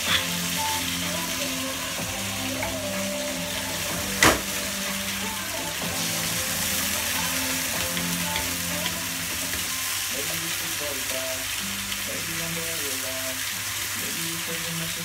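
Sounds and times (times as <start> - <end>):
soft background music: 0.0 - 15.0
zucchini sizzling in a frying pan: 0.0 - 15.0.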